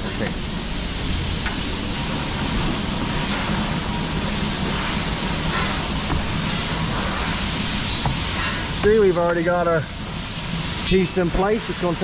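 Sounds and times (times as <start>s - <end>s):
machine humming and hissing: 0.0s - 12.0s.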